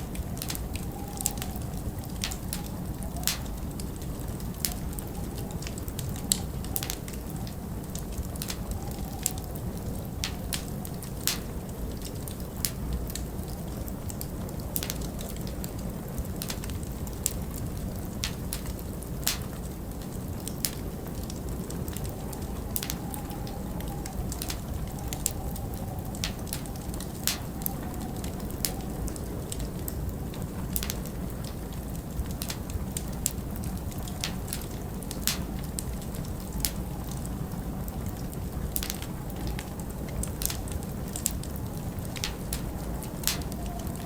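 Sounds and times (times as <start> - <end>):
wind: 0.0 - 44.0
wood fire crackling: 0.0 - 44.0.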